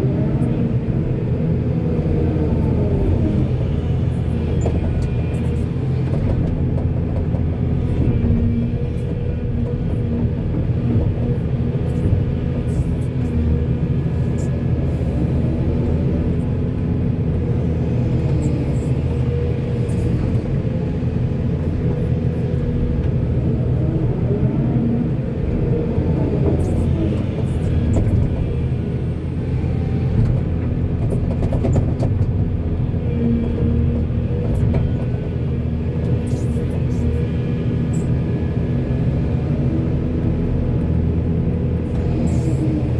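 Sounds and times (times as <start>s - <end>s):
diesel machinery rumbling: 0.0s - 42.9s.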